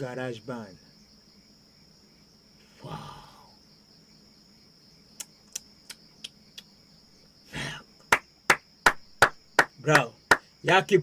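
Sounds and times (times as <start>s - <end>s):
cricket chirring: 0.0s - 11.0s.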